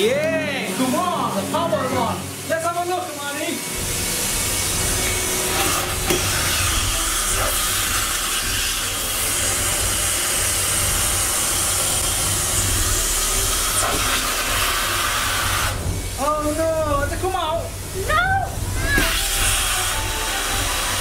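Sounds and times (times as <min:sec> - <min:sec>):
vacuum cleaner sucking air: 0:00.6 - 0:21.0.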